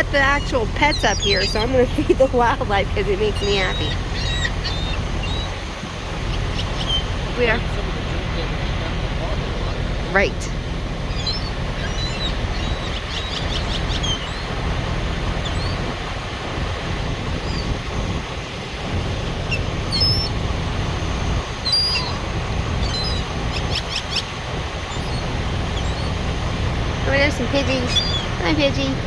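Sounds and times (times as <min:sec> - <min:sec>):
songbirds chirping: 0:00.0 - 0:29.0
steady low rumble: 0:00.0 - 0:29.0.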